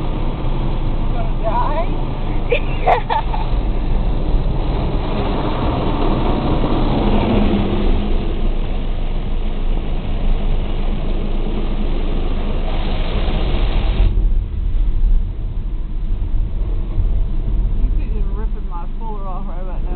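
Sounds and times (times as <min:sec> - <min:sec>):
car wash machinery rumble: 0:00.0 - 0:19.9
water jets hissing: 0:00.3 - 0:19.8.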